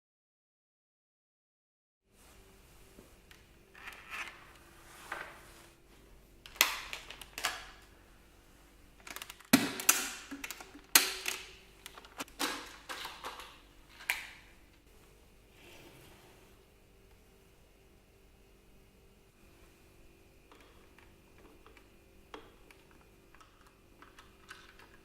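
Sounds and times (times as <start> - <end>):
faint steady hum: 2.1 - 25.0.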